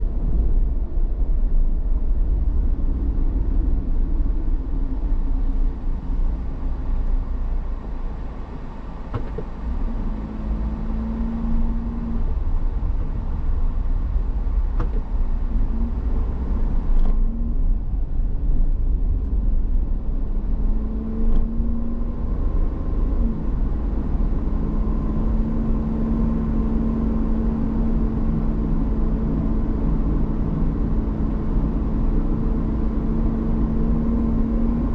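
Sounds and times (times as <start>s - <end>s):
vehicle road and engine noise: 0.0s - 34.9s.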